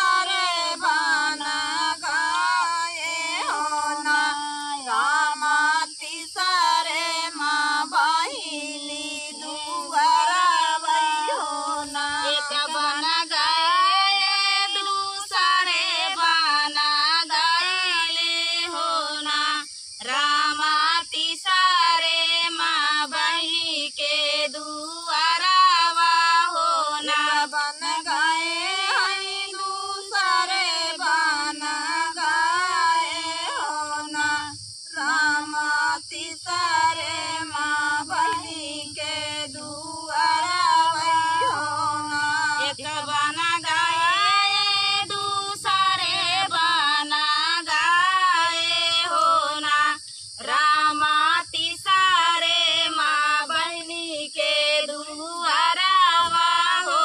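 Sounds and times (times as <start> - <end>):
woman singing folk song: 0.0 - 57.0.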